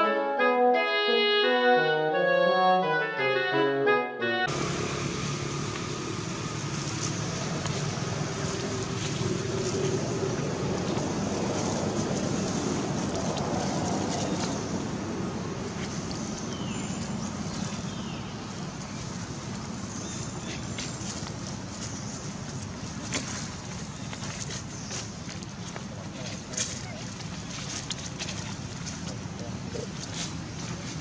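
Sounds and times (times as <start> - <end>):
outdoor rumble and hiss: 4.5 - 31.0.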